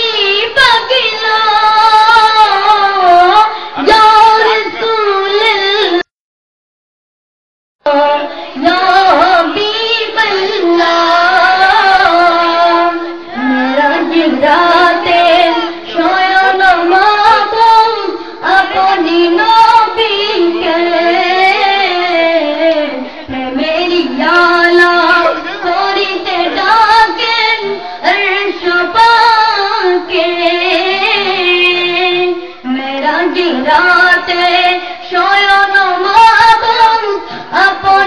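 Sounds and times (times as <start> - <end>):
high voice singing devotional song: 0.0 - 6.1, 7.8 - 38.0.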